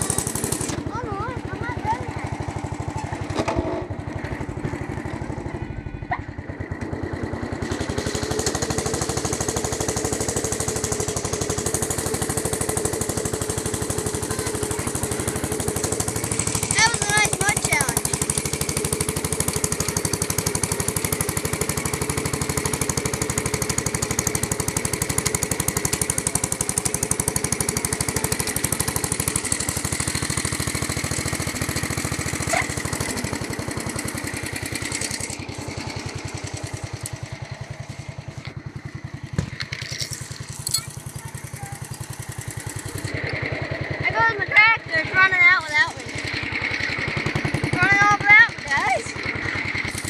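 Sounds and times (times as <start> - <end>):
lawn tractor engine running: 0.0 - 50.0.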